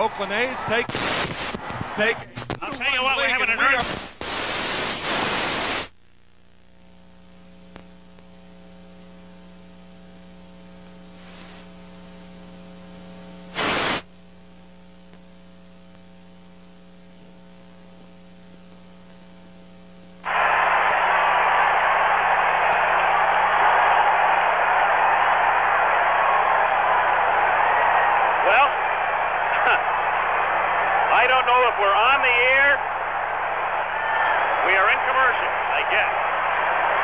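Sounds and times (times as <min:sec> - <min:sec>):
electrical hum: 0:00.0 - 0:37.0
loud static hiss: 0:00.0 - 0:37.0
static bursts: 0:00.0 - 0:37.0.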